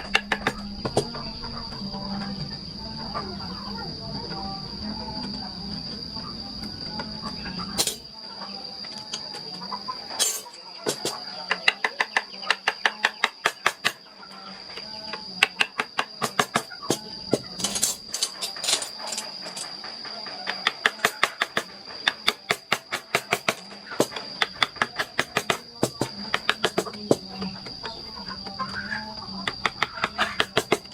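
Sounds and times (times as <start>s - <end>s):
steady high-pitched whine: 0.0s - 30.9s.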